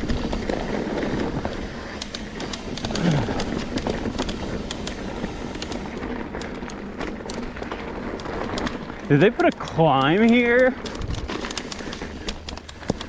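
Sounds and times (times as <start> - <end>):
bike clicks and rattles: 0.0 - 13.0
tyre and wind noise: 0.0 - 13.0.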